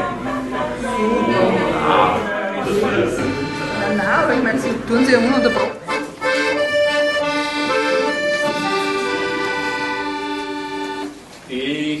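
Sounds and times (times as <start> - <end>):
accordion playing chords: 0.0 - 11.3.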